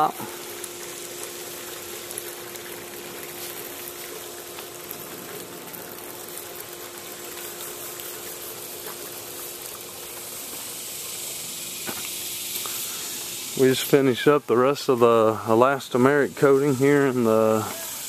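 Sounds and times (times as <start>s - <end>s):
constant hum: 0.0s - 18.0s
steady hiss: 0.0s - 18.0s.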